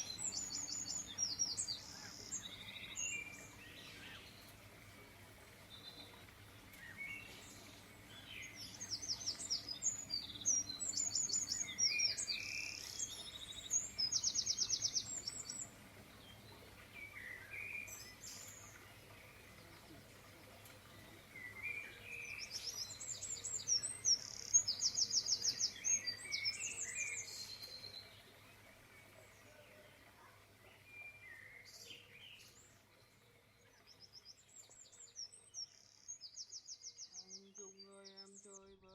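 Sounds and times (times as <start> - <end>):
songbird trilling and chirping: 0.0 - 4.6, 5.6 - 28.5, 30.6 - 38.9.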